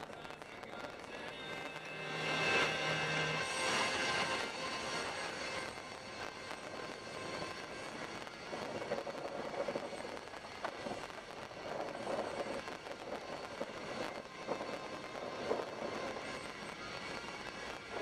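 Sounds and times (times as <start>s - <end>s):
road and engine noise in car: 0.0s - 18.0s.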